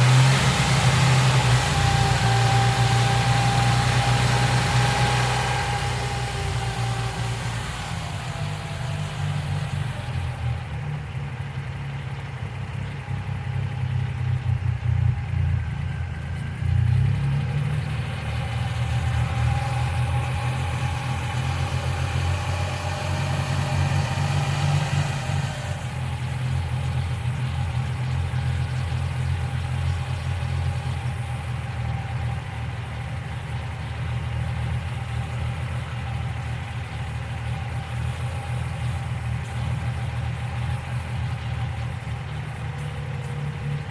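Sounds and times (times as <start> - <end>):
car engine idling rough: 0.0 - 43.9.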